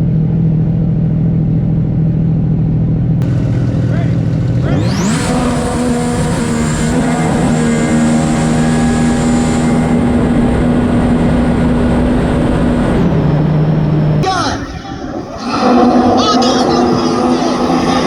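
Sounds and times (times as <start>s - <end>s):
jet ski engines at full throttle: 0.0s - 18.0s.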